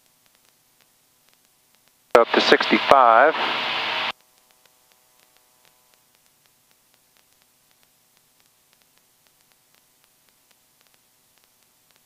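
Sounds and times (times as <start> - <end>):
faint ticks: 0.0 - 2.1, 4.1 - 12.0
faint hiss and hum: 0.0 - 12.0.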